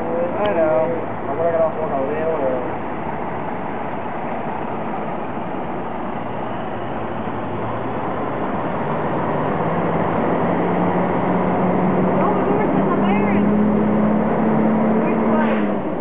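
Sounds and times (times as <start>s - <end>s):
approaching car engine: 0.0s - 16.0s.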